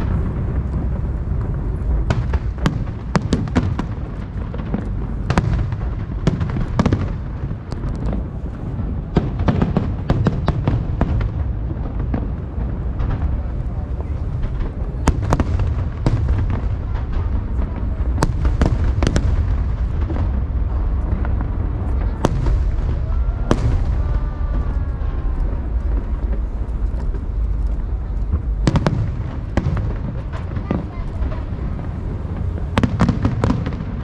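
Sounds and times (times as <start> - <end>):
fireworks bangs: 0.0 - 34.0
steady low rumble: 0.0 - 34.0.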